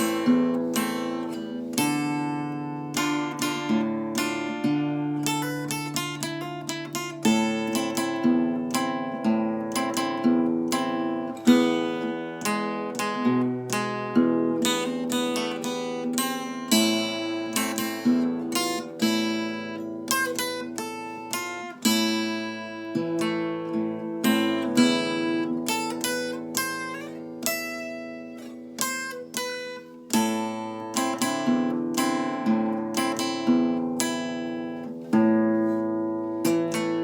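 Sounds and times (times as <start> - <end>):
acoustic guitar melody: 0.0 - 37.0.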